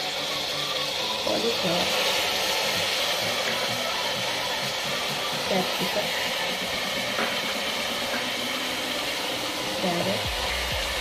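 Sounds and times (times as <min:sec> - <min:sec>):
vegetables frying in hot oil: 0:00.0 - 0:11.0.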